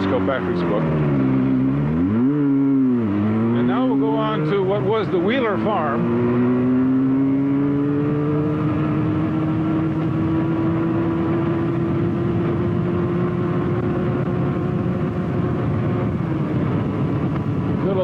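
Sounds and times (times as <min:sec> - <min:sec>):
two-stroke motorcycle engine running: 0:00.0 - 0:18.0.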